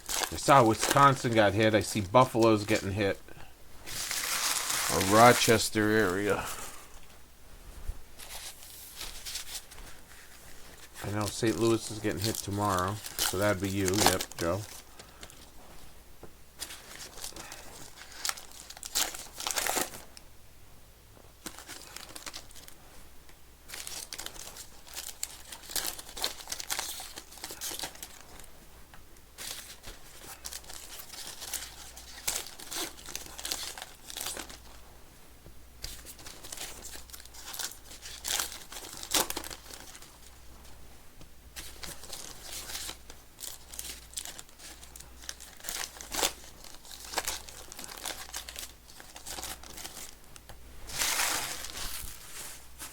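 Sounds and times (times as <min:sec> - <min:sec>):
plastic wrapping crinkling and tearing: 0:00.0 - 0:03.1, 0:03.8 - 0:06.4, 0:08.2 - 0:15.5, 0:16.6 - 0:20.0, 0:21.4 - 0:22.8, 0:23.7 - 0:28.5, 0:29.4 - 0:34.8, 0:35.8 - 0:40.4, 0:41.5 - 0:52.9.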